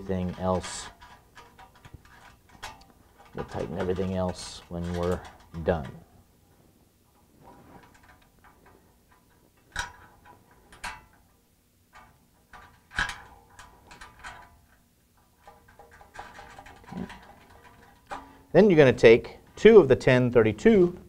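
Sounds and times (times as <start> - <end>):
metal nuts clicking on bolts: 0.0 - 6.1, 7.8 - 19.1.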